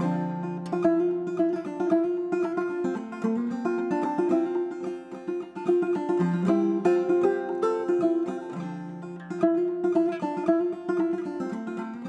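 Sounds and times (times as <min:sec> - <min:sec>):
banjo plucked notes: 0:00.0 - 0:12.0.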